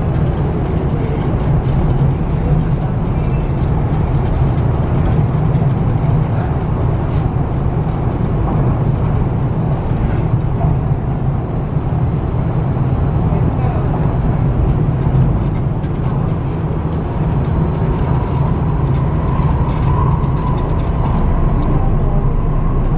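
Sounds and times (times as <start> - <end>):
train wheels rumbling on track: 0.0 - 22.9.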